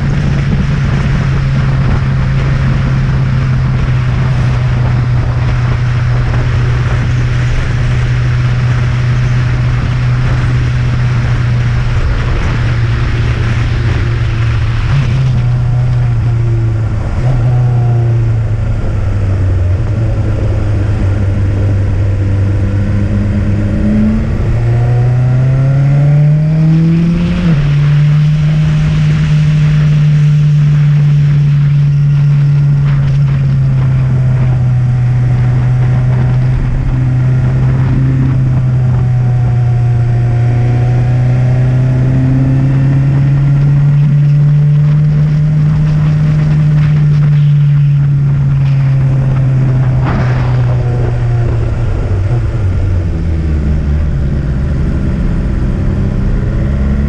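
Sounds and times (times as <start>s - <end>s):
motorcycle engine: 0.0s - 57.0s
wind on microphone: 0.0s - 57.0s.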